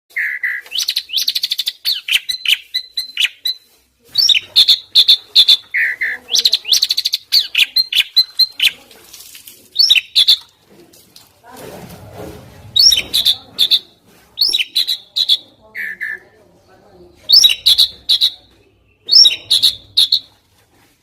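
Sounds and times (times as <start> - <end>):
starling singing: 0.1 - 9.0, 9.7 - 10.5, 12.7 - 20.4.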